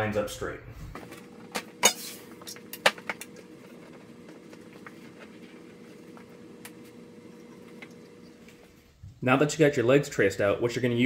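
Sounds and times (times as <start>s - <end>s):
faint machine hum: 0.0s - 11.0s.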